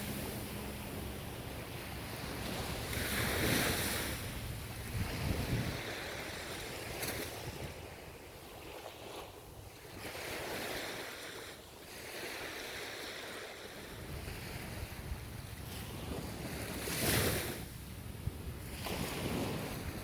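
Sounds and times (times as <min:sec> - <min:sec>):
ocean waves washing onto shore: 0:00.0 - 0:20.0
wind on microphone: 0:00.0 - 0:20.0.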